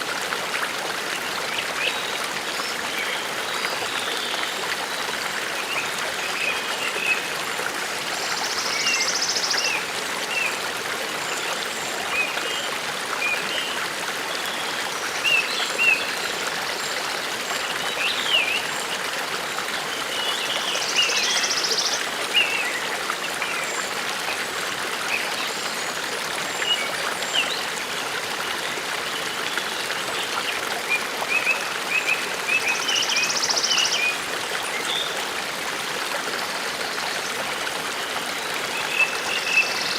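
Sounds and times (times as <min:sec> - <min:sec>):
brook running: 0:00.0 - 0:39.9.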